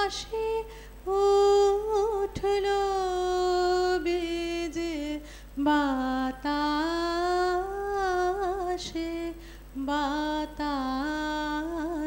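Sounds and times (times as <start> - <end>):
woman singing slow song: 0.0 - 12.0.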